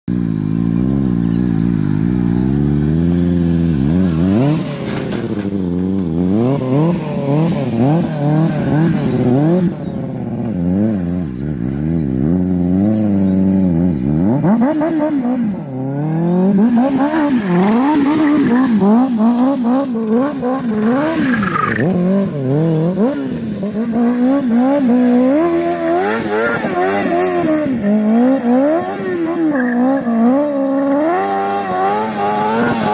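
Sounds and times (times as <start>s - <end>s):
motorcycle engine revving: 0.1s - 32.9s.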